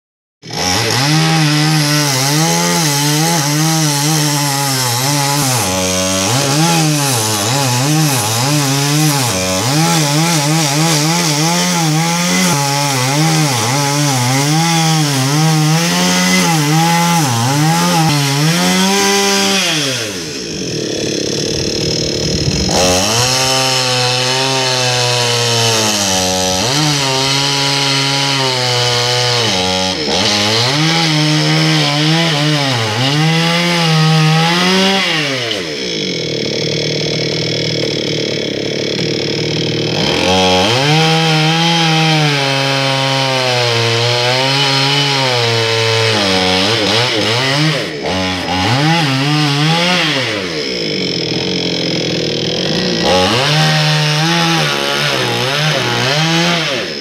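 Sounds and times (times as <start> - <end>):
electric saw cutting wood: 0.4 - 57.0.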